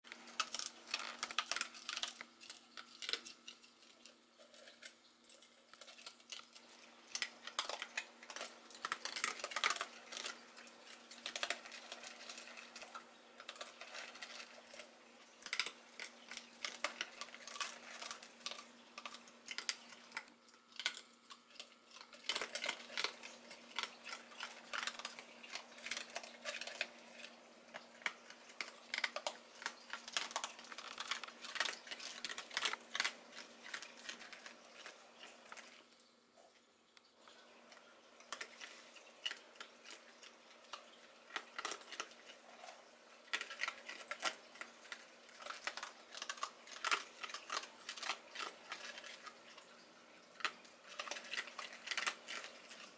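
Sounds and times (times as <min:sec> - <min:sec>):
animals crunching kibble in metal bowls: 0:00.0 - 0:52.9.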